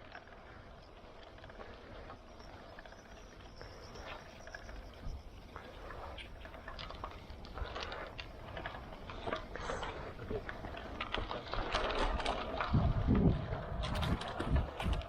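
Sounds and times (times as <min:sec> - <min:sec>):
bike clicking and rattling: 0:00.0 - 0:15.0.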